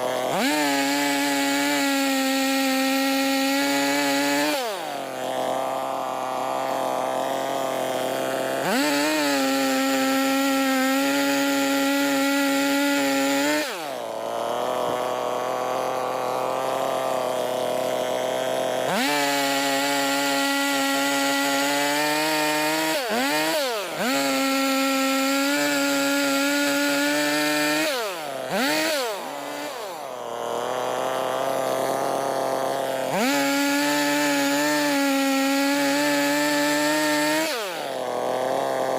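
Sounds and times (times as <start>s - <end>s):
chainsaw revving while cutting logs: 0.0s - 38.9s.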